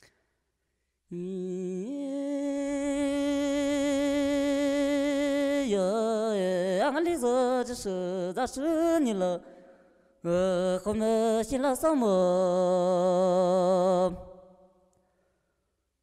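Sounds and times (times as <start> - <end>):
person singing with vibrato: 1.1 - 14.7.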